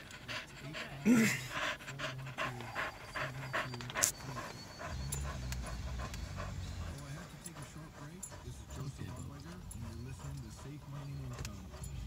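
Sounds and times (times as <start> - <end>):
dog panting quickly: 0.0 - 12.0.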